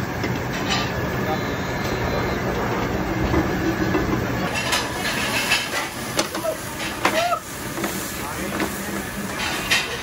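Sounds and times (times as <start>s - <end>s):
kitchen noise drone: 0.0s - 10.0s.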